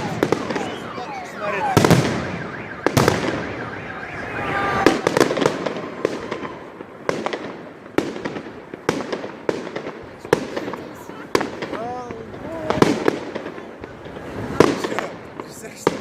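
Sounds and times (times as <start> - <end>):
firework crackling: 0.0 - 16.0.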